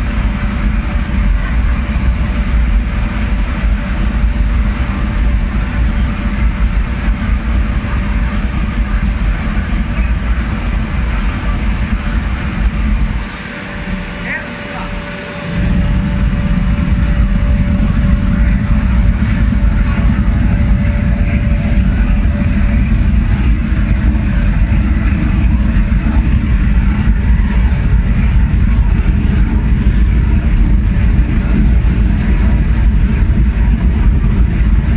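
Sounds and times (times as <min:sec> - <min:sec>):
gas burner flame rumbling: 0:00.0 - 0:34.9.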